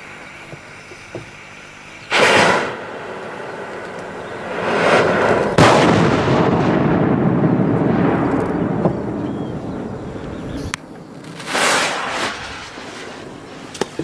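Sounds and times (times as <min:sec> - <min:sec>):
firecracker blasts: 0:02.1 - 0:14.0
rumbling echo: 0:02.1 - 0:14.0.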